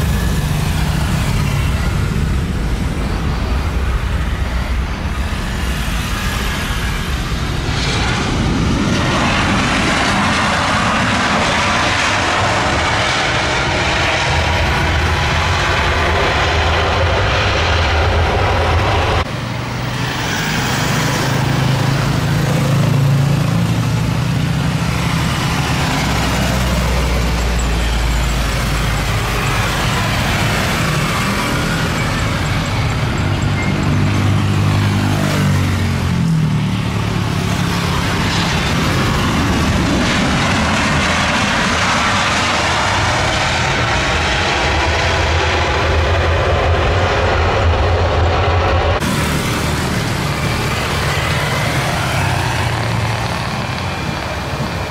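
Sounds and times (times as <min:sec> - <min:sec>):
airliner approaching and landing: 0:00.0 - 0:54.9
jet engine roar: 0:00.0 - 0:54.9.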